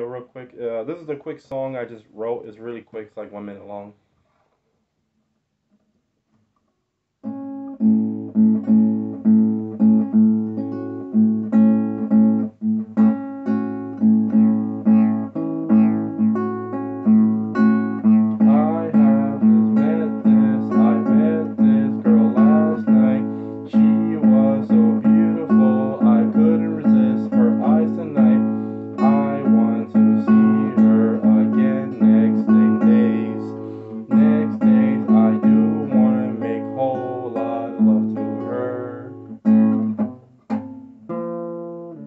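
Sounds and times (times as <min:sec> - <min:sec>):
classical guitar bossa nova: 0:07.2 - 0:42.0.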